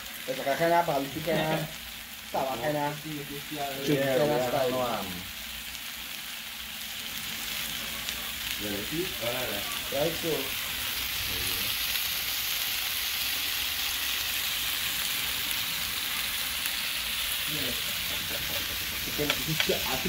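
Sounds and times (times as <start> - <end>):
chicken sizzling on a griddle: 0.0 - 20.0.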